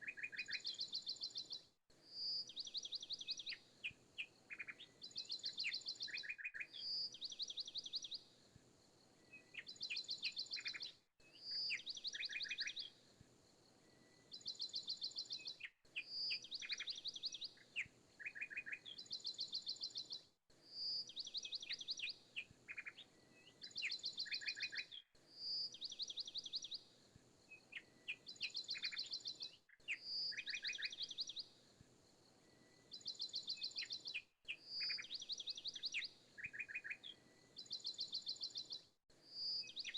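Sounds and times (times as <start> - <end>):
birdsong trilled chirps: 0.0 - 8.3, 9.3 - 13.0, 14.0 - 26.9, 27.5 - 31.5, 32.7 - 39.9.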